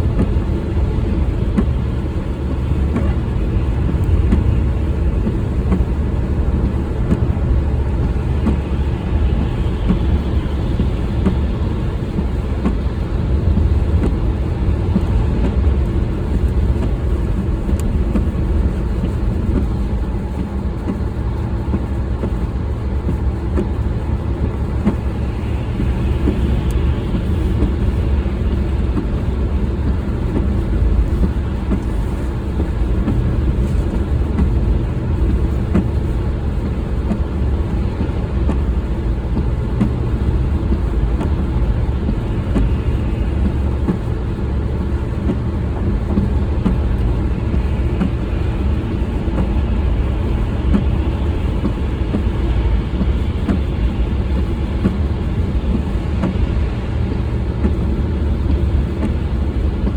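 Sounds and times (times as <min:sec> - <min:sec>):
vehicle rumbling in motion: 0:00.0 - 0:59.9.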